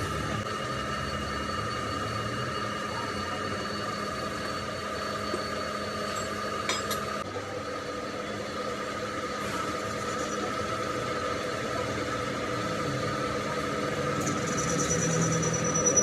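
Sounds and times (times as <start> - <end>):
machine whining: 0.0 - 16.0.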